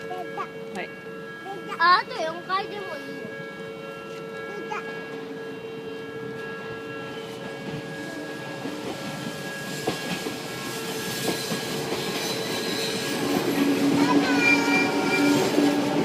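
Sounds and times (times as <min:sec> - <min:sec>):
crossing warning bell ringing: 0:00.0 - 0:16.0
train passing: 0:00.0 - 0:16.0.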